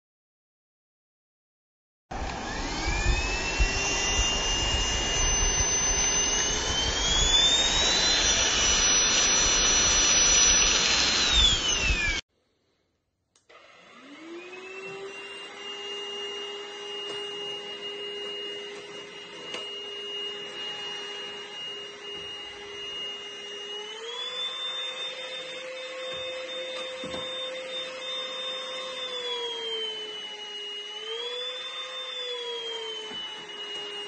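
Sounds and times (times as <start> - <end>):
vacuum motor whine: 2.1 - 12.2, 13.5 - 34.0.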